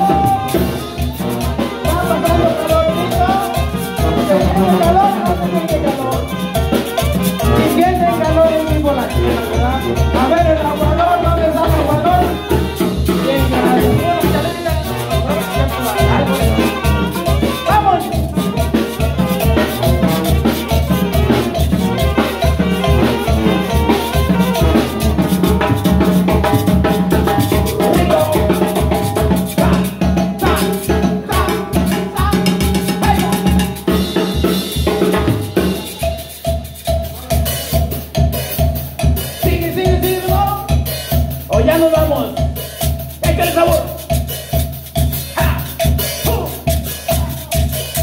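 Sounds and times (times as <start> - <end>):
sousaphone bass: 0.0 - 42.6, 43.2 - 48.0
brass band playing: 0.0 - 48.0
drum kit beat: 0.0 - 48.0.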